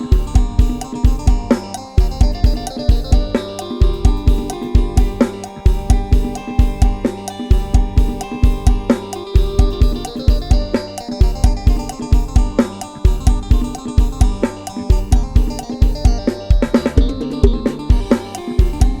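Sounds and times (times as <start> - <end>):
kick drum and bass thumping: 0.0 - 19.0
snare cymbal and hi-hat strokes: 0.0 - 19.0.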